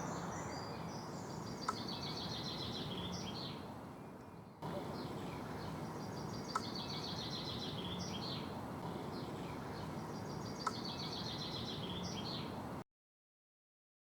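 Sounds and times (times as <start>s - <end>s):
songbird trilling: 0.0s - 12.7s
steady background hiss: 0.0s - 12.8s.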